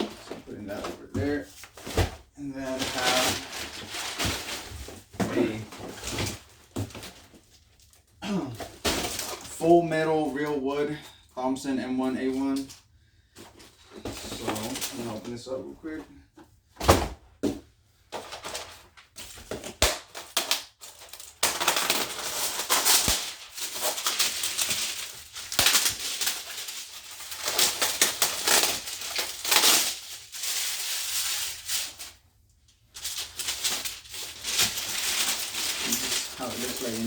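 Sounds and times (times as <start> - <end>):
cardboard packaging rustling and crinkling: 0.0 - 10.9, 13.3 - 16.1, 16.8 - 37.0.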